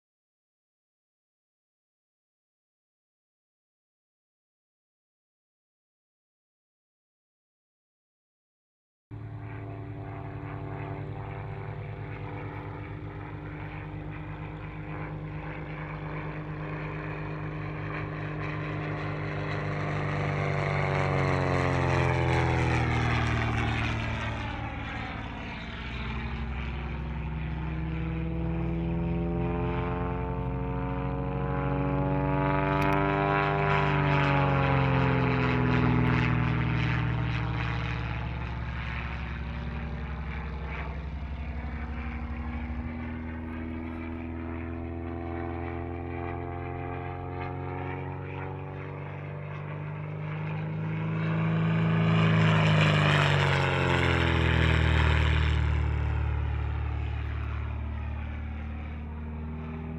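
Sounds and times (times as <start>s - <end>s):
propeller aircraft engine droning: 9.1s - 59.9s.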